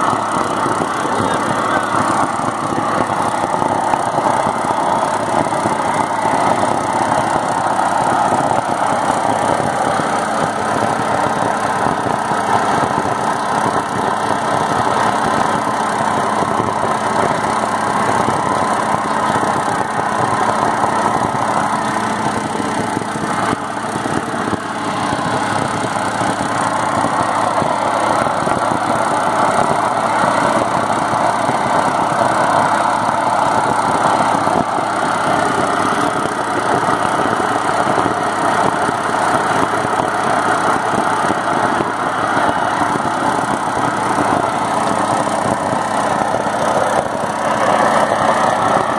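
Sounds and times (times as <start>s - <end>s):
gas burner roaring: 0.0s - 48.9s.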